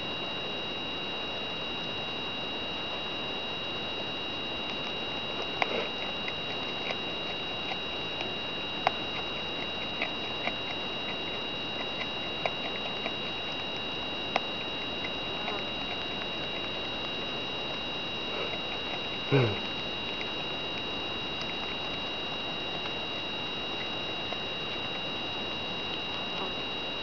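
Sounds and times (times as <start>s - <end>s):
high-pitched whine: 0.0s - 27.0s
woodchuck chewing clicks: 4.6s - 27.0s.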